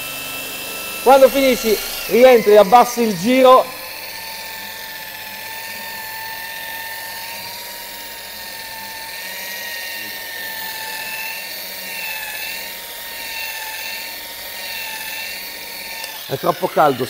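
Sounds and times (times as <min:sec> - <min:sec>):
polishing pad hissing on paint: 0:00.0 - 0:14.1
rotary polisher motor whine: 0:00.0 - 0:17.0.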